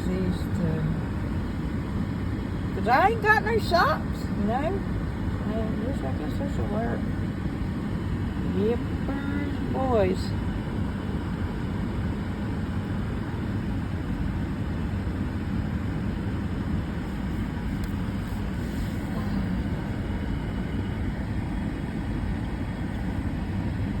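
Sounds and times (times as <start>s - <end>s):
vehicle idling from inside cab: 0.0s - 24.0s.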